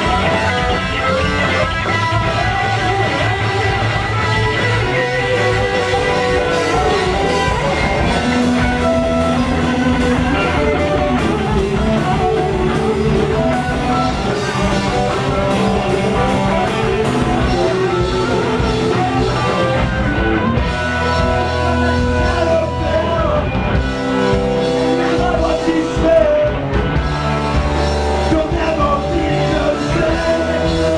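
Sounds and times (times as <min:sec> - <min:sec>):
live metal band playing: 0:00.0 - 0:30.9.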